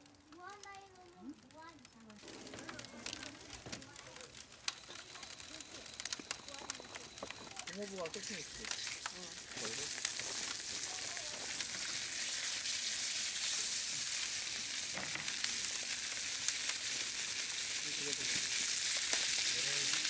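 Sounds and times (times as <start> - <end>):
oil popping: 0.0 - 20.0
food sizzling in a pan: 0.6 - 20.0.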